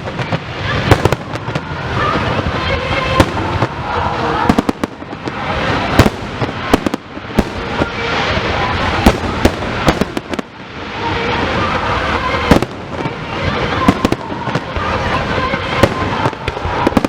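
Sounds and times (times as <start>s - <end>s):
continuous noisy background: 0.0s - 17.0s
fireworks bangs and crackles: 0.0s - 17.0s.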